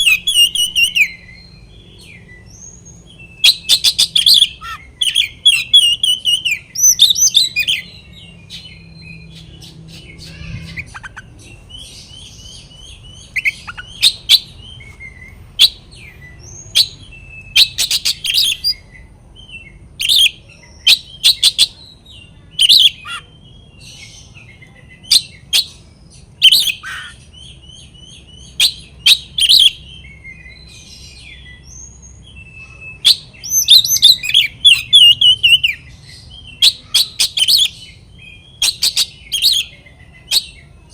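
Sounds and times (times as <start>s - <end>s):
bird singing whistles and trills: 0.0s - 40.9s.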